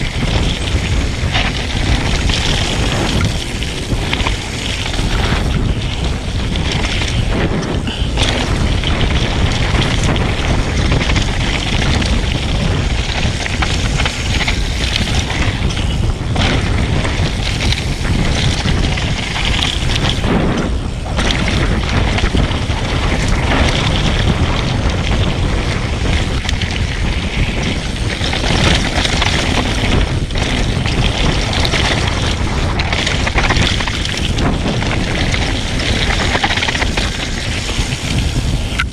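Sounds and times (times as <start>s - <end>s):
bike tyres rolling over dirt and rock: 0.0s - 38.9s
wind noise on microphone: 0.0s - 38.9s.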